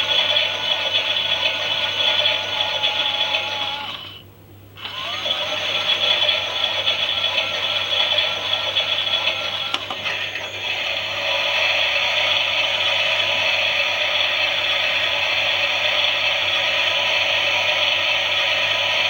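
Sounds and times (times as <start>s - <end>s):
toy washing machine whirring rattle: 0.0s - 4.2s, 4.8s - 19.0s.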